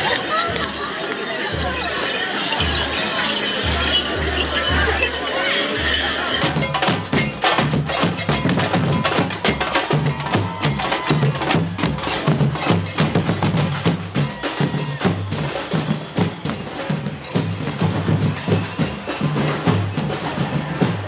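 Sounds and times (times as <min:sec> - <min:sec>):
drum and wood-block hits: 0:01.5 - 0:21.0.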